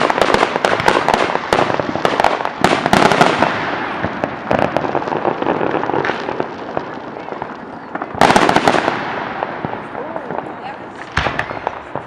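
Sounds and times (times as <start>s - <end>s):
fireworks crackling: 0.0s - 12.0s
fireworks pops and bangs: 0.0s - 12.0s.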